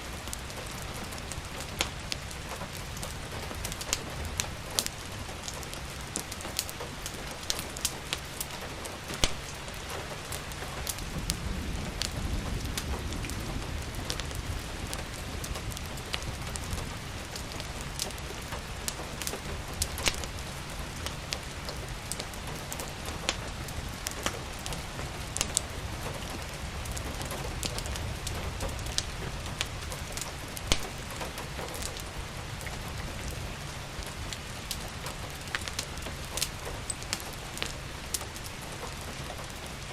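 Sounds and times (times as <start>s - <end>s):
steady rain falling: 0.0s - 39.9s
wood fire crackling and popping: 0.0s - 39.9s.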